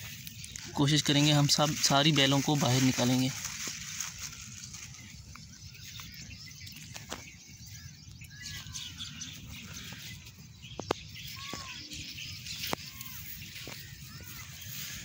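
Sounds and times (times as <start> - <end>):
birds chirping: 0.0 - 15.0
plants rustling: 0.0 - 15.0.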